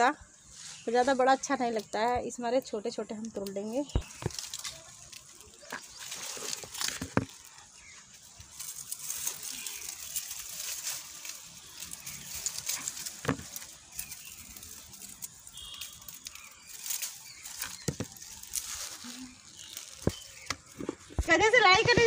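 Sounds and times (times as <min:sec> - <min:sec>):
leaves and stems rustling: 0:00.0 - 0:22.0.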